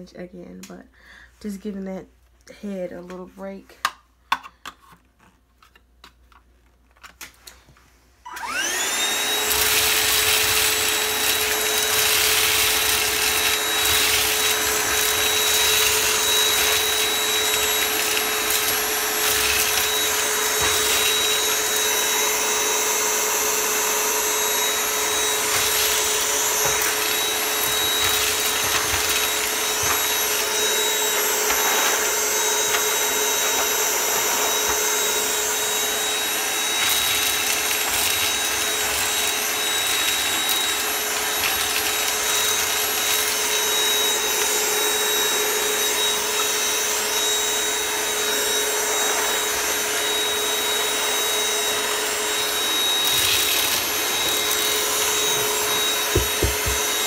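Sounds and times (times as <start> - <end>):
vacuum cleaner motor whining: 8.2 - 57.0.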